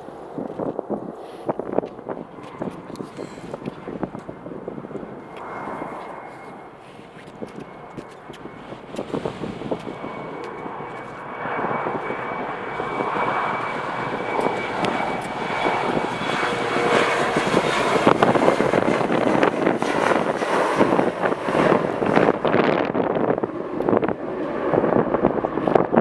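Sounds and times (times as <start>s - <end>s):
high engine whine: 0.0s - 26.0s
jet engines roaring: 0.0s - 26.0s
wind buffeting microphone: 0.0s - 26.0s.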